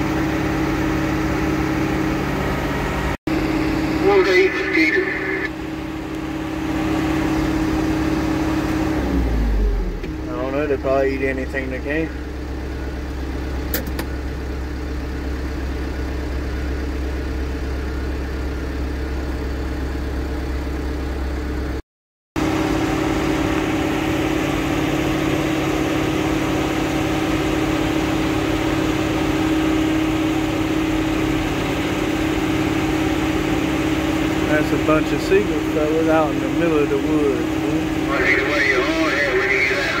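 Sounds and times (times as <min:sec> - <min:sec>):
engine idling: 0:00.0 - 0:21.8, 0:22.4 - 0:40.0.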